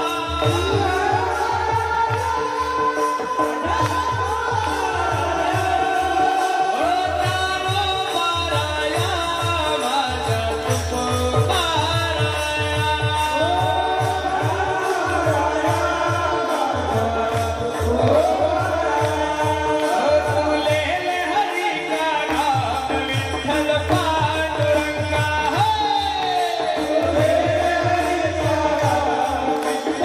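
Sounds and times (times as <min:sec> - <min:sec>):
drum beat: 0:00.0 - 0:30.0
hand cymbals: 0:00.0 - 0:30.0
crowd clapping in time: 0:00.2 - 0:30.0.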